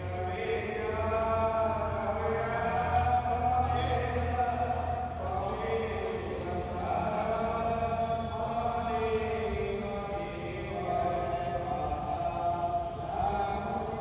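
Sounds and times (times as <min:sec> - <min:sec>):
low steady drone: 0:00.0 - 0:14.0
voices chanting: 0:00.0 - 0:14.0.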